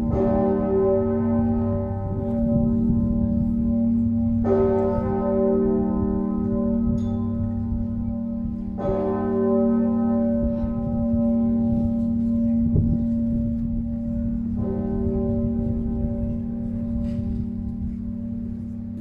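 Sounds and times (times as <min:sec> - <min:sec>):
deep church bell strikes: 0:00.0 - 0:19.0.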